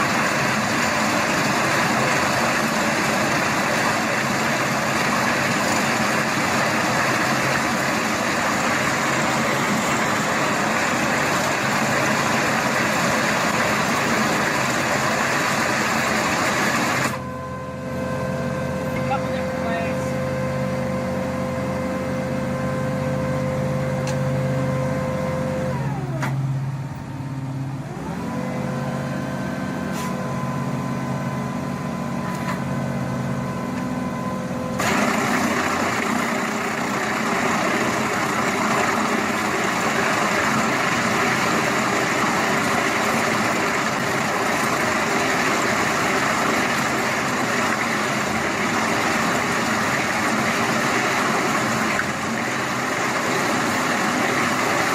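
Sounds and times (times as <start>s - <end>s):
heavy machine engine running: 0.0s - 54.9s
loud rough engine: 0.0s - 54.9s.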